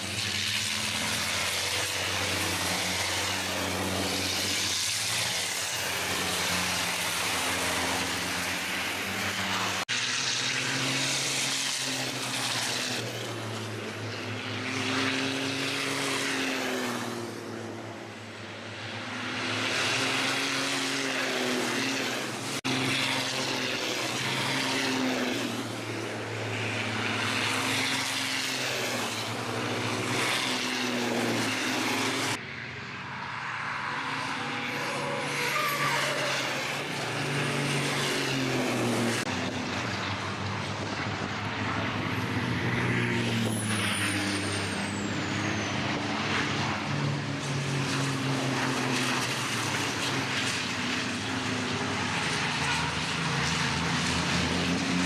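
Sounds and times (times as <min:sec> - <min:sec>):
racing truck diesel engines: 0:00.0 - 0:55.0.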